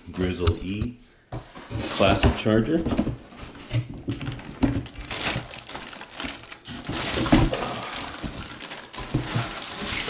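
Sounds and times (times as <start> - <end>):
cardboard and plastic rustling: 1.3 - 10.0.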